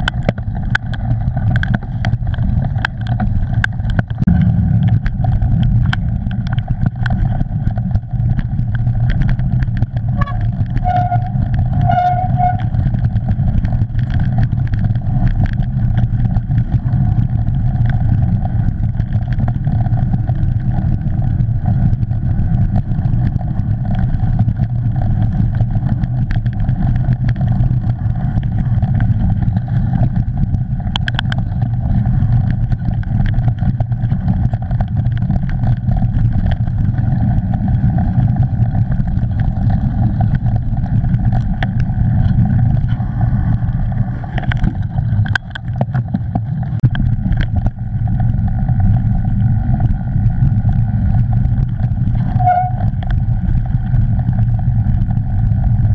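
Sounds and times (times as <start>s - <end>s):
bike rattles and knocks: 0.0s - 55.9s
tyres rolling over mud: 0.0s - 55.9s
wind buffeting: 0.0s - 55.9s.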